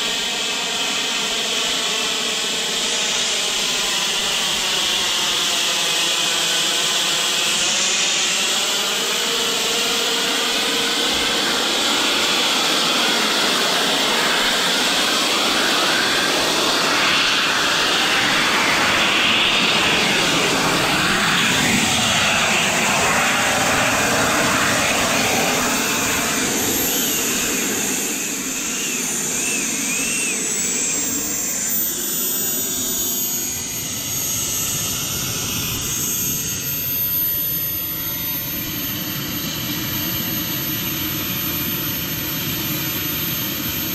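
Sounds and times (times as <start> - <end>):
model jet engine whine: 0.0 - 43.9.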